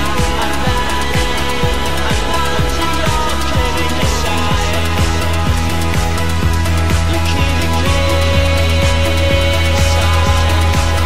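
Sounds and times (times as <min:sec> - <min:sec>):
music with steady drum beat: 0:00.0 - 0:11.0
sustained bass: 0:00.0 - 0:11.0.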